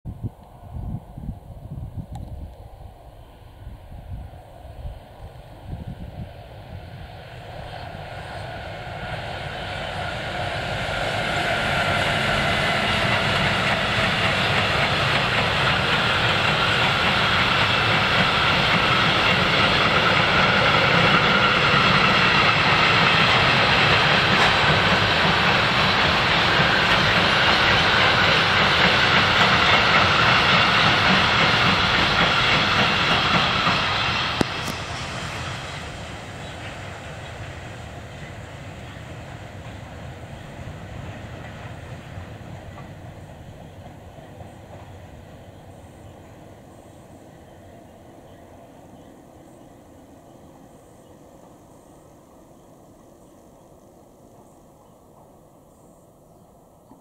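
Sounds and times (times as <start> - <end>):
train wheels rolling on rails: 0.4 - 57.0.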